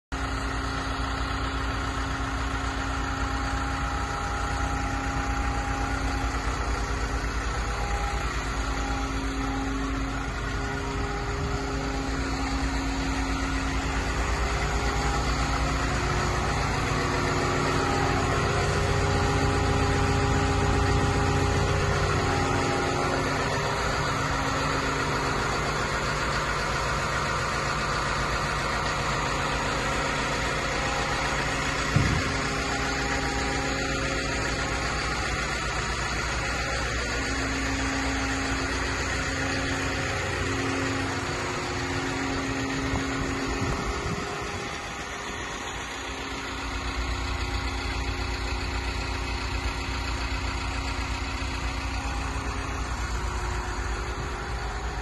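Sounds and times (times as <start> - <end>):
diesel engine idling: 0.1 - 55.0.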